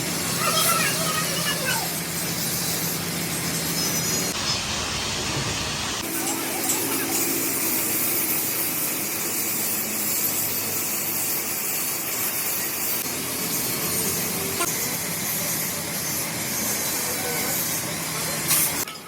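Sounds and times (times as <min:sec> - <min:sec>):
machine running with hiss: 0:00.0 - 0:19.0.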